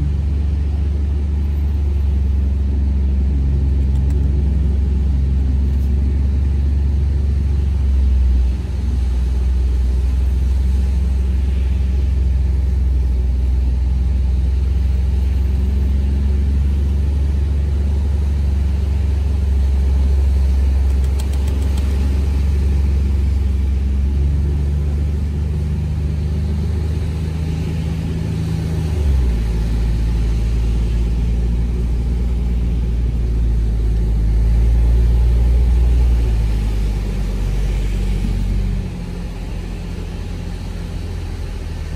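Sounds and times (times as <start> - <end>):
engine drone under load: 0.0 - 41.9.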